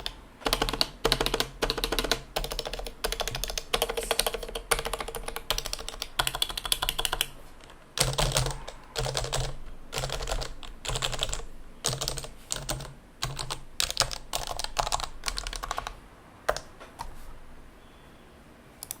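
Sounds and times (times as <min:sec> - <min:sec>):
keyboard typing: 0:00.0 - 0:17.5, 0:18.8 - 0:19.0.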